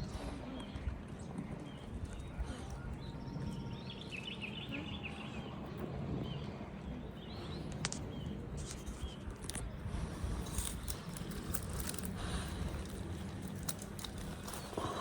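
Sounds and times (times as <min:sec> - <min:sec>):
low rumble of wind: 0:00.0 - 0:15.0
small birds twittering: 0:00.0 - 0:15.0.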